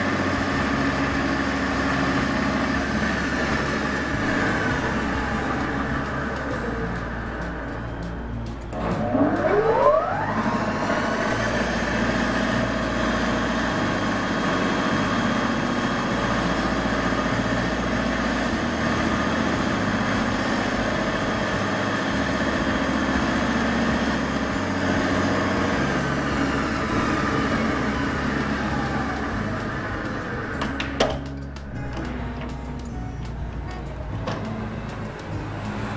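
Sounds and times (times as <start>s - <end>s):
drill press motor humming: 0.0s - 30.9s.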